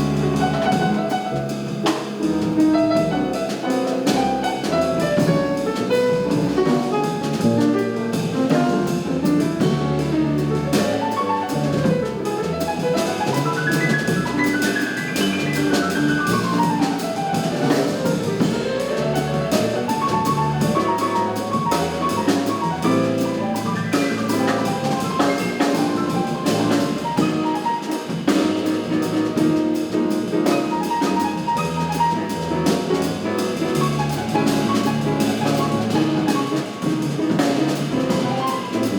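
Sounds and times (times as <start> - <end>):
jazz quartet playing: 0.0 - 38.9.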